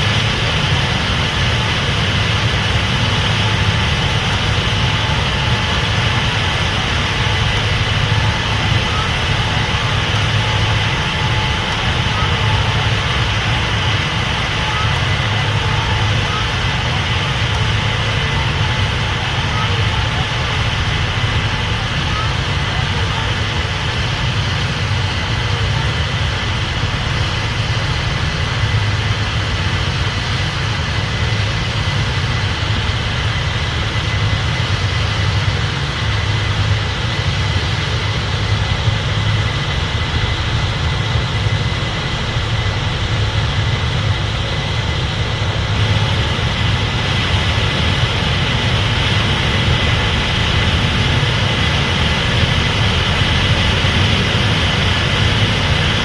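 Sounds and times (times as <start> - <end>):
combine engine and machinery hum: 0.0 - 56.0
steady high whine: 0.0 - 56.0.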